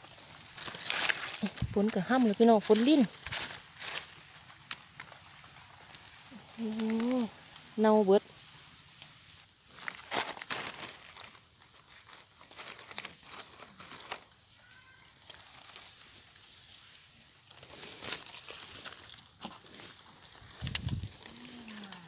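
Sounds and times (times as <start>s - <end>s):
leaf litter rustling and crackling: 0.0s - 22.0s.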